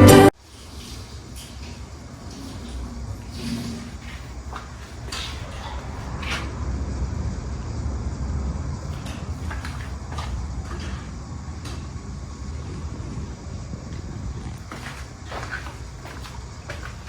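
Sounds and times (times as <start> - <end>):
wall fan running: 0.0 - 17.0.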